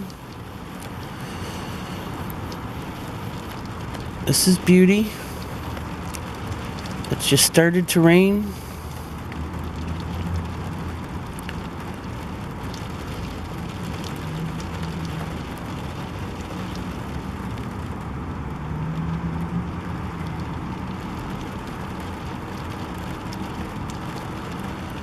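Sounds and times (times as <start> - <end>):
light rain falling: 0.0 - 25.0
traffic hum: 0.0 - 25.0.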